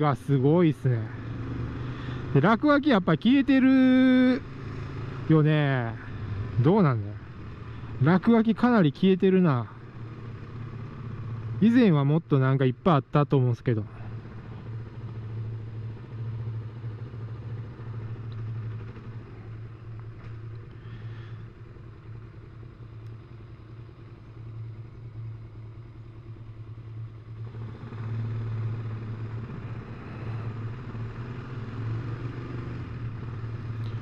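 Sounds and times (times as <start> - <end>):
motorcycle engine humming: 0.0 - 34.0.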